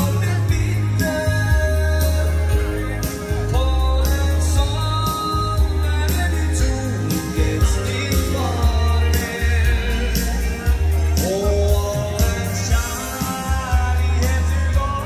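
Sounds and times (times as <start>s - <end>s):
bass line: 0.0s - 15.0s
person singing: 0.0s - 15.0s
steady drum beat: 0.0s - 15.0s
upbeat dance band music: 0.0s - 15.0s.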